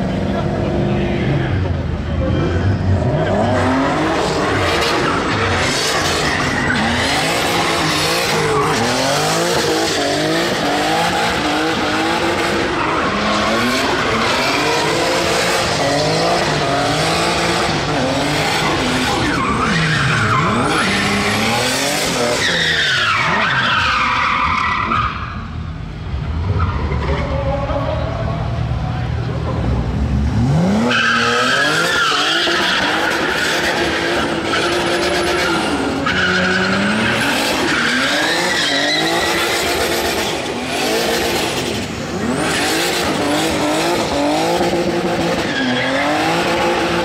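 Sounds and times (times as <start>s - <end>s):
car engine revving: 0.0s - 23.8s, 29.3s - 47.0s.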